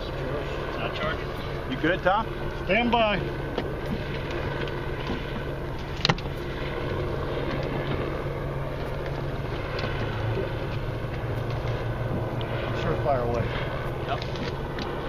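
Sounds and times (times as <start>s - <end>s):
boat engine idling: 0.0s - 15.0s
water: 0.0s - 15.0s
wind: 0.0s - 15.0s.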